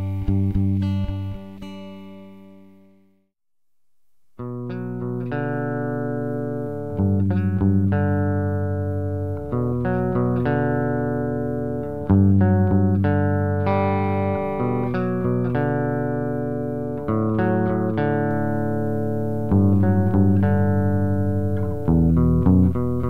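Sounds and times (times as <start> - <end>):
clean electric guitar chords and notes: 0.0 - 2.9, 4.4 - 23.0.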